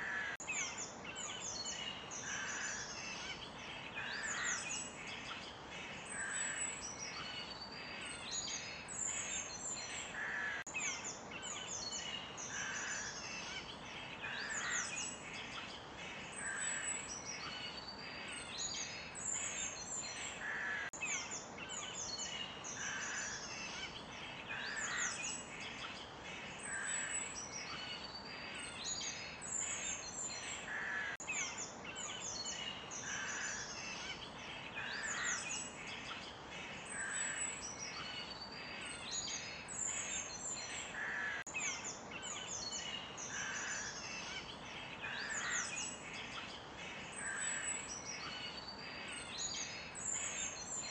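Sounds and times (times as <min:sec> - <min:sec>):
soft steady hiss: 0:00.0 - 0:50.9.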